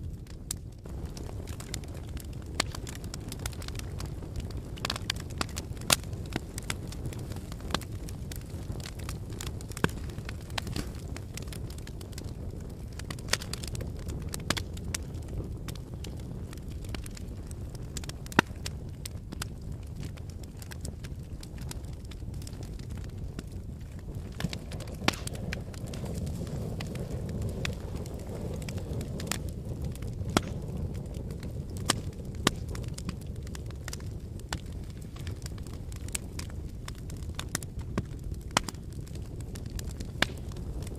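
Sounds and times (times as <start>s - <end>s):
fire crackling and popping: 0.0s - 40.9s
fire flames rumbling: 0.0s - 40.9s.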